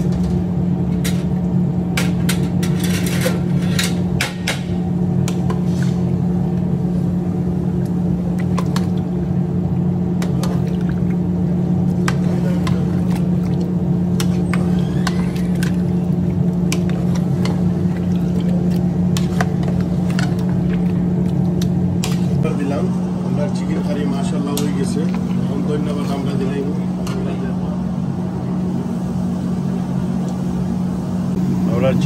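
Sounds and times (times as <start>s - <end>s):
loud low machine hum: 0.0s - 32.0s.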